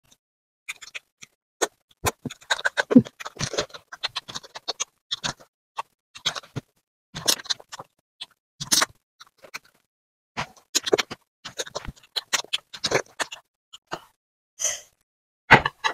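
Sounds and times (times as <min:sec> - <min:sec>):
chewing smacks and clicks: 0:00.0 - 0:09.8, 0:10.6 - 0:14.2.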